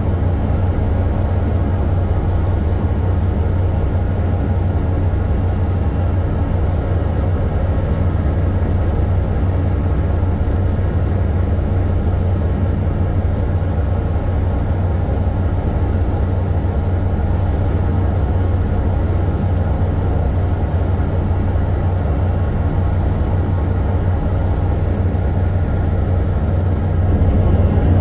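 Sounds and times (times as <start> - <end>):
ship engine droning: 0.0 - 28.0.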